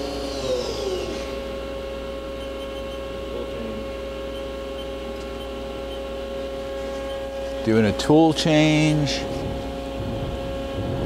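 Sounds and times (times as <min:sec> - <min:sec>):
machine hum: 0:00.0 - 0:11.0
machine whine: 0:00.0 - 0:11.0.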